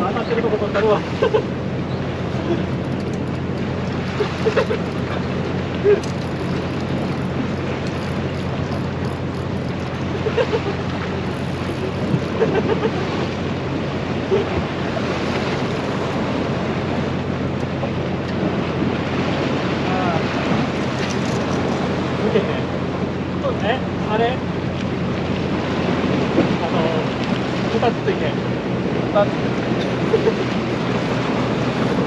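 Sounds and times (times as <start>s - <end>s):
sea surf on rocky shore: 0.0s - 32.0s
wind buffeting microphone: 0.0s - 32.0s.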